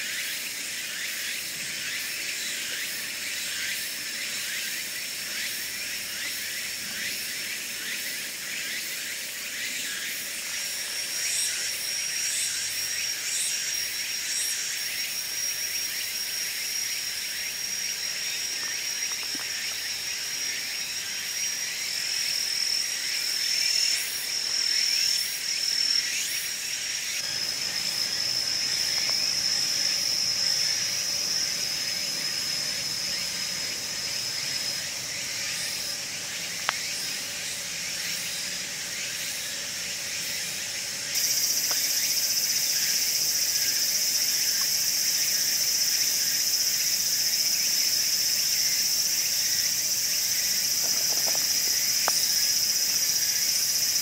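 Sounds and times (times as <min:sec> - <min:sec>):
insects singing: 0:00.0 - 0:54.0.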